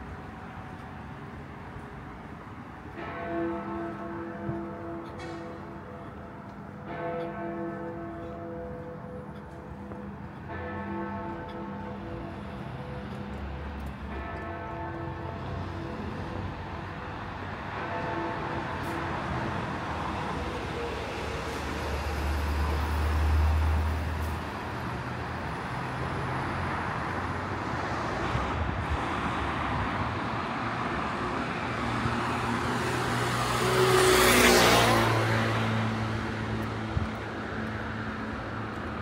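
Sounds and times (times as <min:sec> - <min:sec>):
steady traffic: 0:00.0 - 0:39.0.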